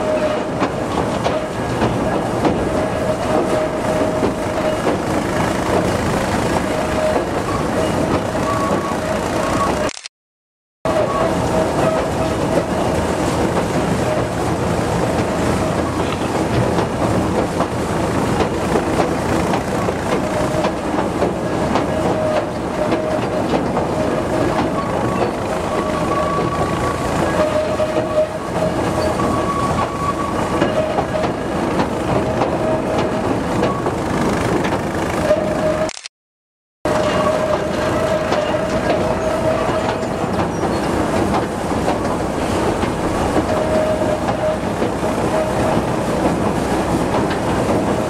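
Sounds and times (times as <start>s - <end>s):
train wheels and engine rumble: 0.0s - 9.9s, 10.9s - 35.9s, 36.9s - 48.0s.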